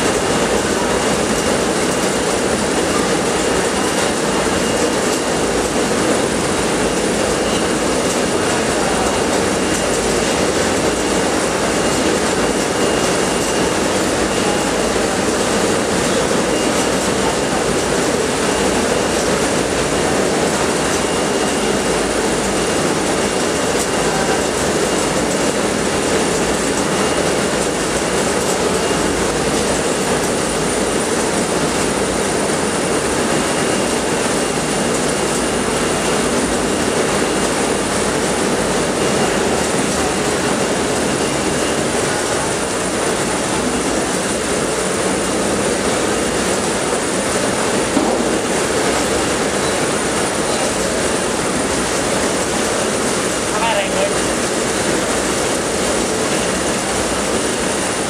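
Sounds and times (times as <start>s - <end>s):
conveyor and machinery running: 0.0s - 58.0s.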